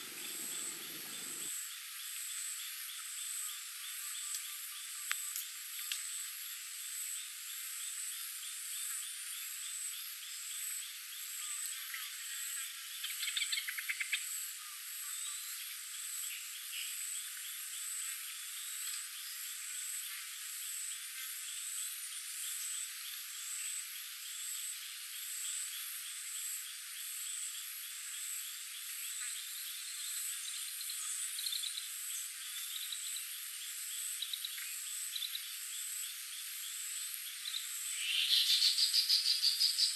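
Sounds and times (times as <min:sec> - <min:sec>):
ticking frog chorus: 0:00.0 - 0:06.1, 0:08.7 - 0:39.9
pulsing insect drone: 0:00.0 - 0:39.9.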